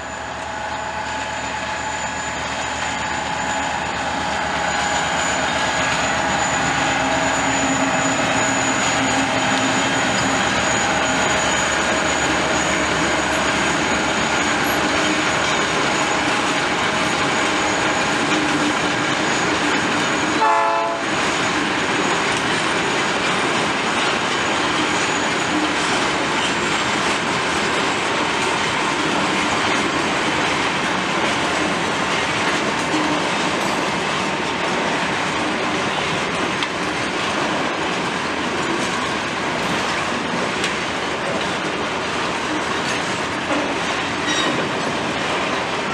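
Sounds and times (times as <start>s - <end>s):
freight train running past: 0.0s - 45.9s
wheels clacking over rails: 3.4s - 45.9s.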